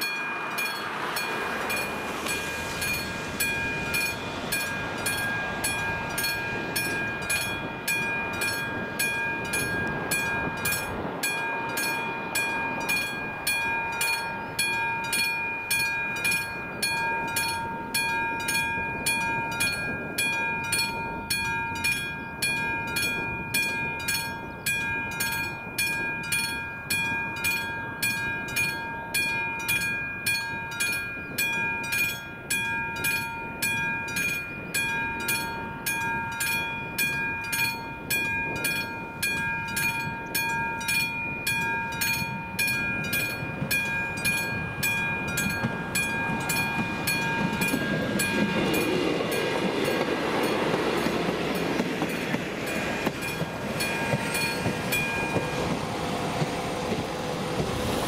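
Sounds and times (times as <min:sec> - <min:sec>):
level crossing warning bell: 0:00.0 - 0:58.0.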